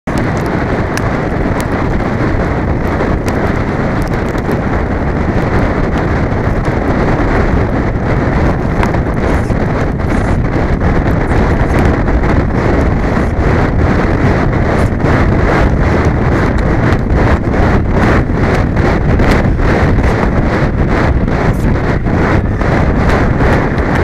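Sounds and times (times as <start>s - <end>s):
wind buffeting a microphone: 0.0s - 24.0s.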